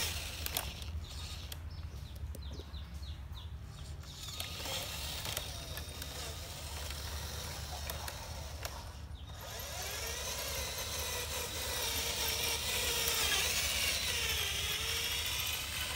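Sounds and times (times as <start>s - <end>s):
small electric motor whining: 0.0s - 2.2s, 3.8s - 15.9s.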